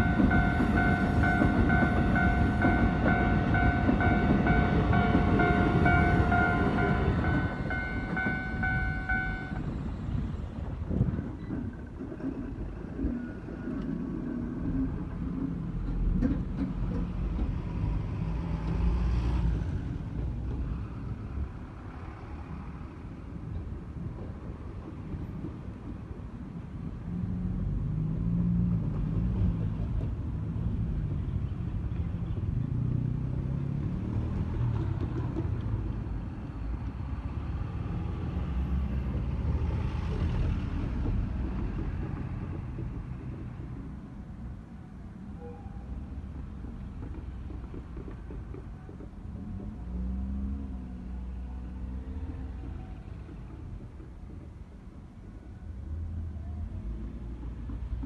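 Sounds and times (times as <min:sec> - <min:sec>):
electric trains rumbling: 0:00.0 - 0:58.0.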